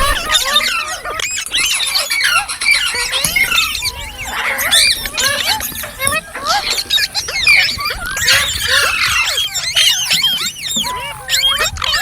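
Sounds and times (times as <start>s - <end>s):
parrots chirping and squawking: 0.0s - 12.0s.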